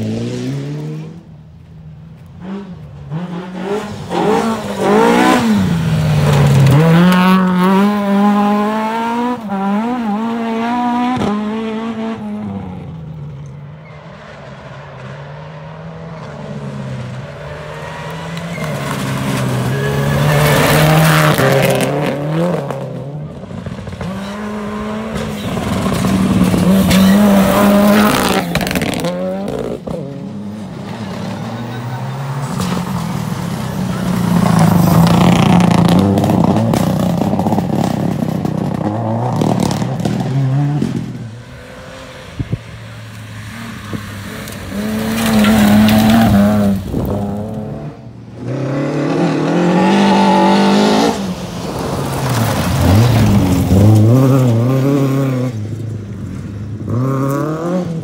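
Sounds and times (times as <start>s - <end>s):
cars passing: 0.0s - 58.0s
rally car engines revving: 0.0s - 58.0s.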